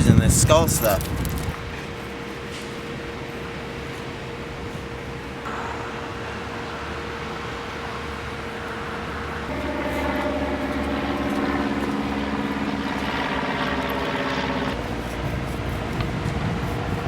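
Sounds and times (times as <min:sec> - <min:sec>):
steady engine hum: 0:00.0 - 0:17.0.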